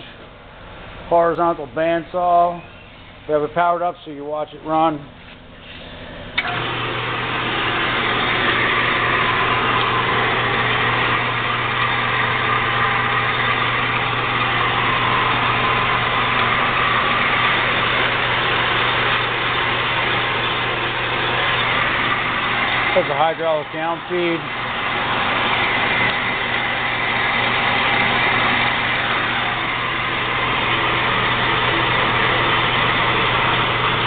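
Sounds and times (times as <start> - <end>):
band saw motor running: 6.1 - 34.0.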